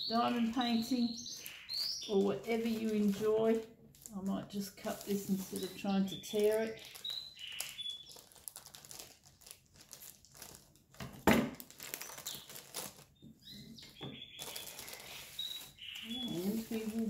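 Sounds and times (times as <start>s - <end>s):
plastic shrink-wrap crackling: 0.2s - 13.2s, 14.2s - 17.0s.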